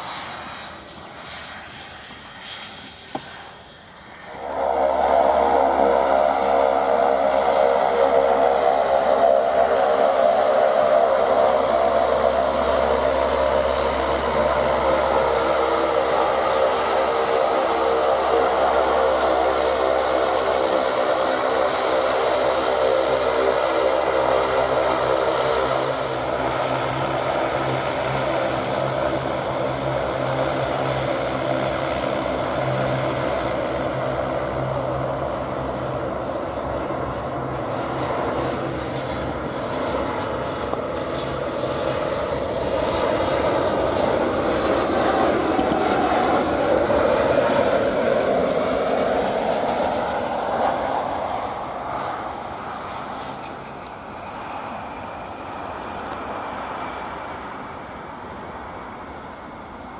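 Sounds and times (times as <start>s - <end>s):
aircraft engines humming: 0.0s - 59.9s.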